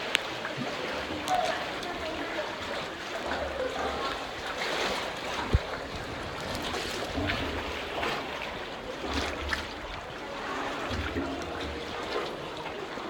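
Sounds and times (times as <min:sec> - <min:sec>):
canoe paddles splashing: 0:00.0 - 0:13.0
water trickling: 0:00.0 - 0:13.0.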